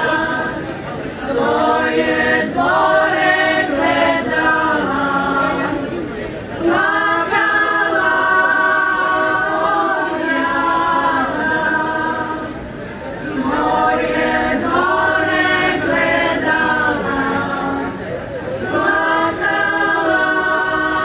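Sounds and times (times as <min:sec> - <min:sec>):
women singing unaccompanied: 0:00.0 - 0:21.0.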